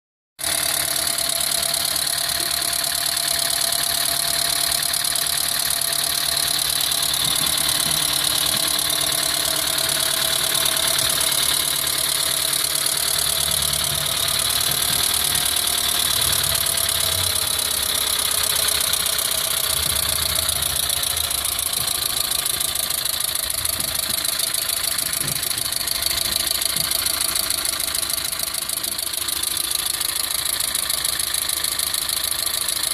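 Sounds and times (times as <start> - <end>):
engine idling: 0.4 - 32.9
fast steady valvetrain ticking: 0.4 - 32.9.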